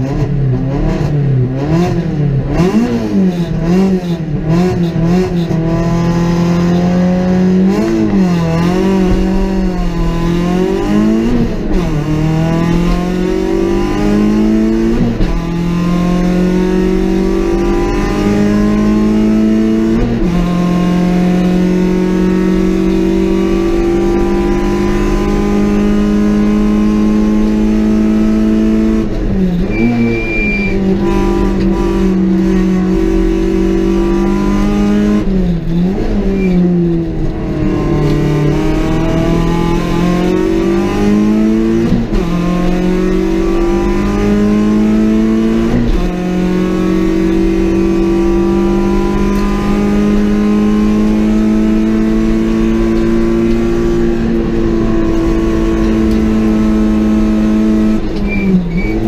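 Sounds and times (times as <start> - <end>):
rally car engine at high revs: 0.0 - 59.0.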